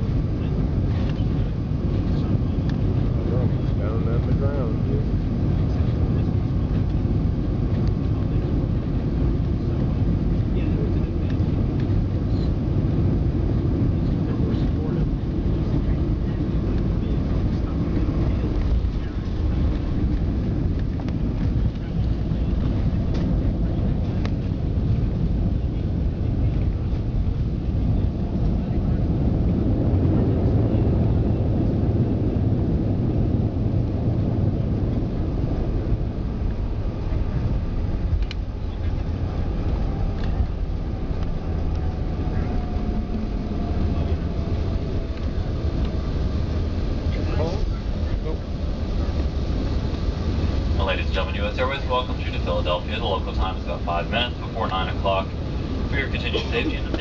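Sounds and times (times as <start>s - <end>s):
airflow over airframe: 0.0s - 57.0s
jet engines: 0.0s - 57.0s.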